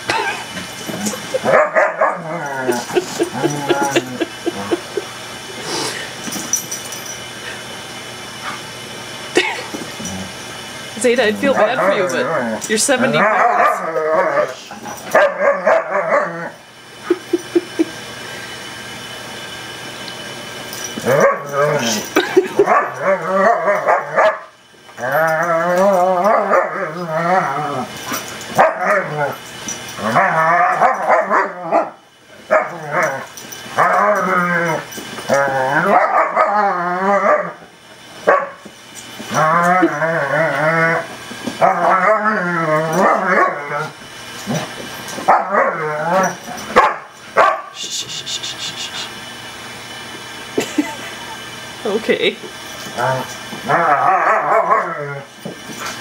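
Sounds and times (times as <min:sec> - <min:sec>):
dogs play growling: 0:00.0 - 0:46.8, 0:52.4 - 0:56.0.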